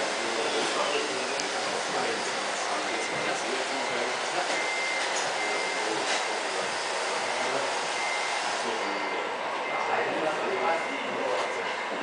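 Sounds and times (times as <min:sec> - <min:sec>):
model truck electric drive running: 0:00.0 - 0:09.6
thin whine: 0:00.1 - 0:12.0.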